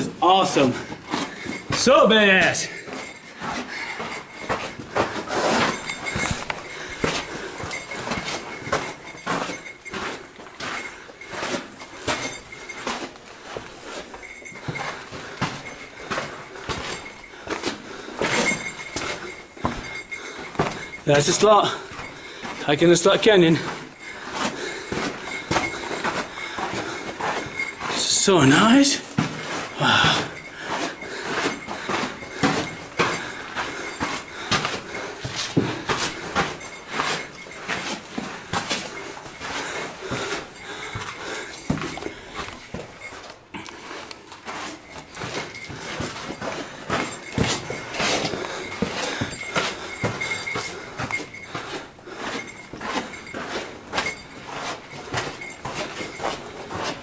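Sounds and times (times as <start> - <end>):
rustling handling noise: 0.0 - 57.0.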